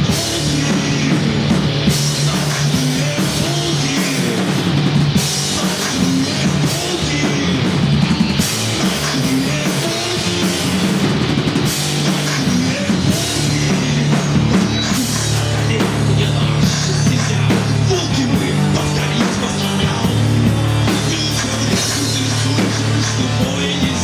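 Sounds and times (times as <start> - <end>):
drum kit: 0.0 - 24.0
guitars: 0.0 - 24.0
steady bass line: 0.0 - 24.0.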